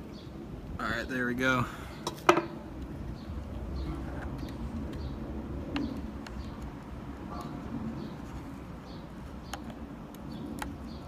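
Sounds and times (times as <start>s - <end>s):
birds calling: 0.0s - 11.0s
low wind rumble: 0.0s - 11.0s.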